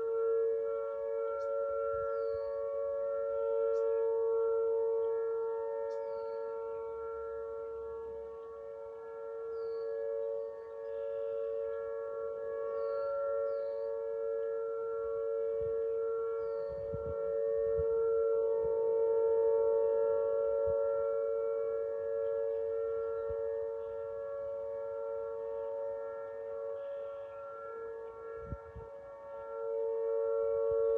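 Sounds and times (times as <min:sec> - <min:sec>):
tornado warning siren: 0:00.0 - 0:30.9.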